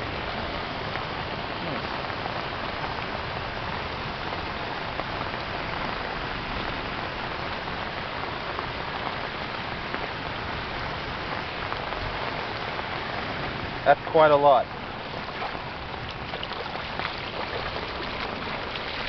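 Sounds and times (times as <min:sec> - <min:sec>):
rain on wet asphalt: 0:00.0 - 0:19.0.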